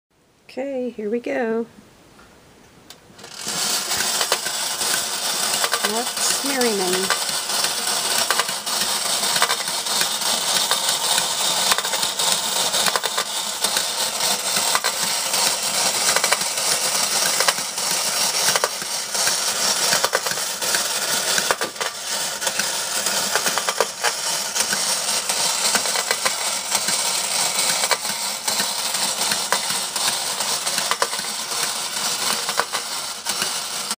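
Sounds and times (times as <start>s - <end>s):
wind-up toy metallic clatter: 3.2s - 33.9s.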